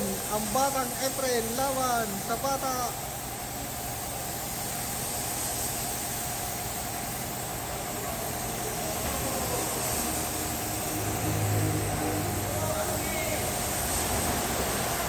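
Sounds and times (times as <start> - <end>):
paint spray gun hissing: 0.0 - 15.0.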